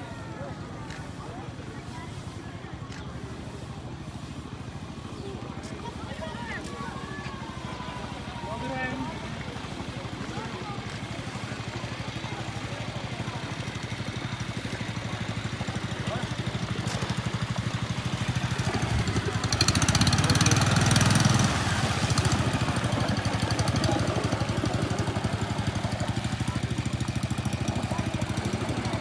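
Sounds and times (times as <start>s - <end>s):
boat engine chugging: 0.0s - 29.0s.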